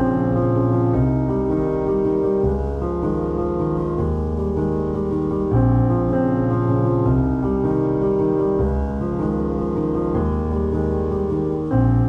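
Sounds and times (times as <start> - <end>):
low bass line: 0.0 - 12.0
piano chords: 0.0 - 12.0.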